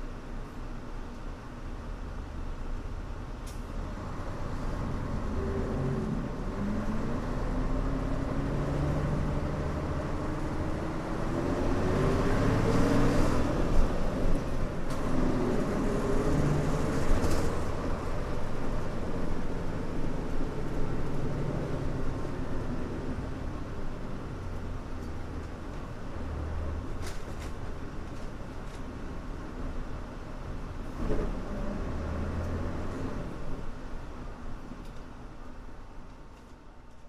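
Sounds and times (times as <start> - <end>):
bus diesel engine pulling: 0.0 - 37.0
road noise: 0.0 - 37.0.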